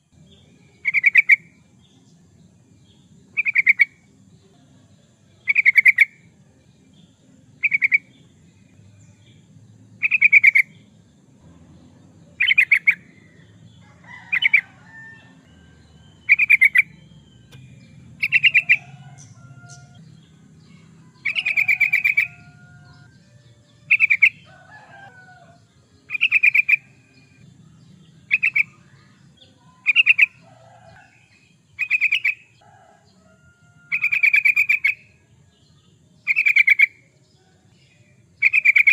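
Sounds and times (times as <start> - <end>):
bird chattering song: 0.3 - 4.1, 5.4 - 11.1, 11.9 - 35.2, 36.2 - 37.1, 38.3 - 38.9.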